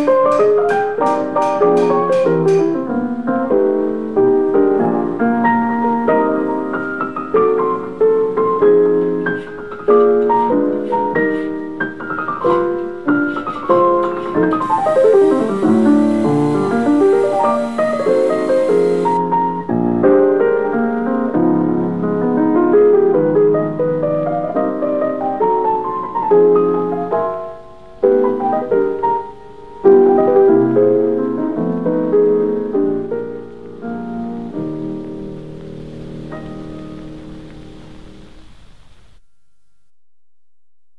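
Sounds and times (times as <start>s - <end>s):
piano music: 0.0s - 38.3s.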